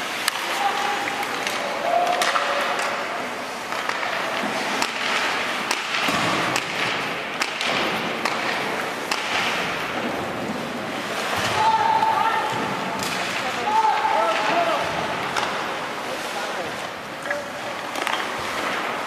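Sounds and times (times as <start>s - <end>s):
hockey sticks and puck clacking: 0.0s - 19.0s
skates scraping on ice: 0.0s - 19.0s.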